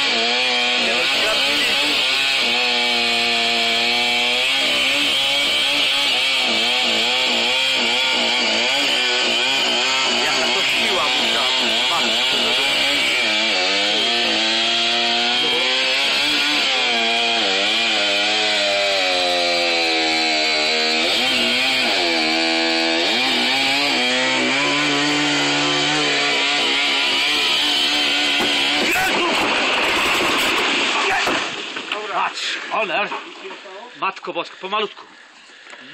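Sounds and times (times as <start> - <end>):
chainsaw revving: 0.0 - 33.2.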